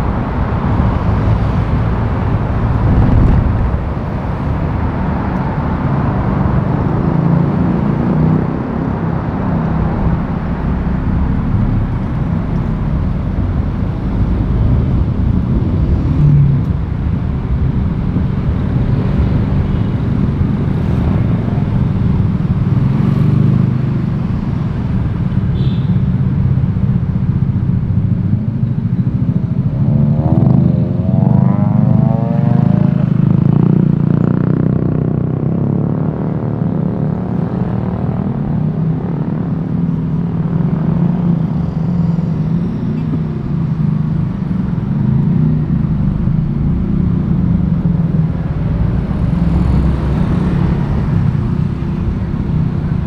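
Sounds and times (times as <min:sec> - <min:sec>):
vehicle engines running: 0:00.0 - 0:53.0.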